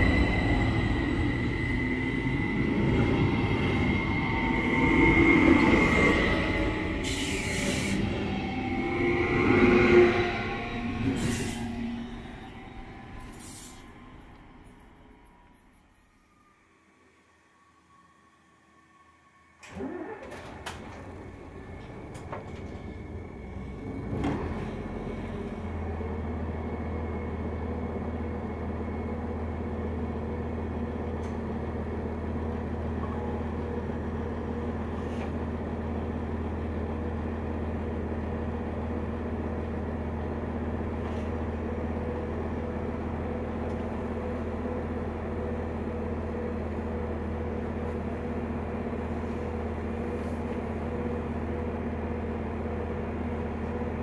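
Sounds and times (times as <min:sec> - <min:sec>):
train machinery humming: 0:00.0 - 0:16.5, 0:19.0 - 0:54.0.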